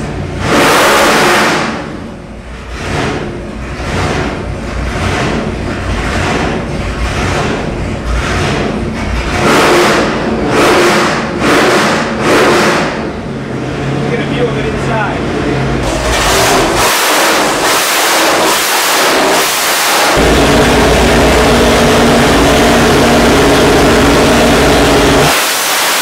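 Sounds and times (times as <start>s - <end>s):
supercharged engine revving: 0.0s - 26.0s.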